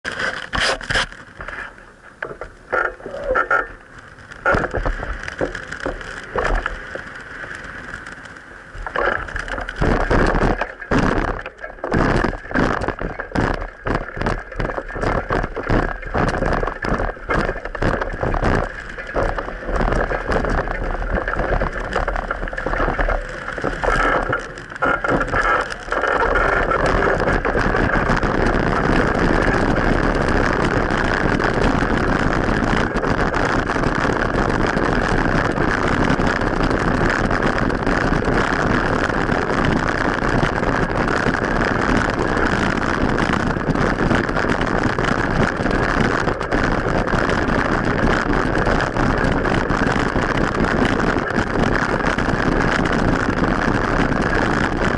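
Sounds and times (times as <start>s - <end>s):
bicycle rattling: 0.0s - 54.9s
road noise: 0.0s - 54.9s.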